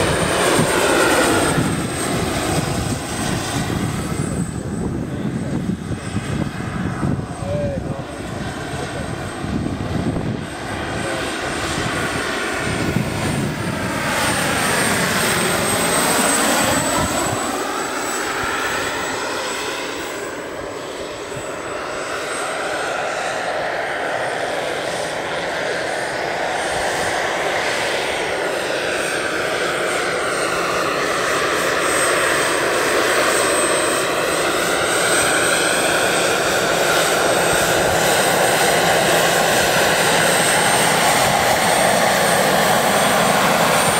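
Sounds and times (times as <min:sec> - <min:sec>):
helicopter rotor noise: 0:00.0 - 0:43.9
high turbine whine: 0:00.0 - 0:43.9.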